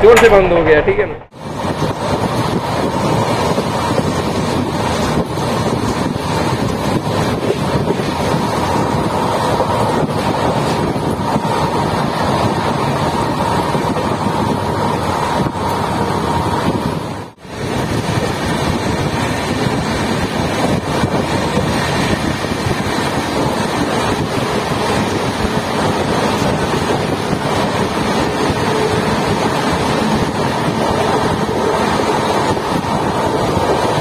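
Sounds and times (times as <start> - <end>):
train running noise: 0.0 - 34.0
wind buffeting microphone: 1.3 - 34.0.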